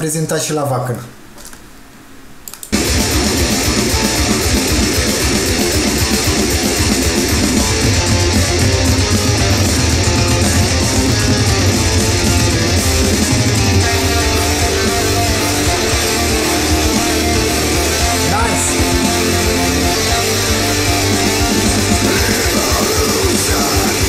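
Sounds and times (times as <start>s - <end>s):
heavy metal song: 2.8s - 24.0s.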